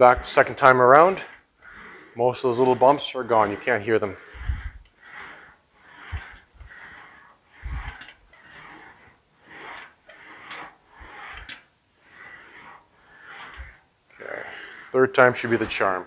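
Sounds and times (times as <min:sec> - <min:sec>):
sheet metal rolling hiss: 0:00.0 - 0:16.0.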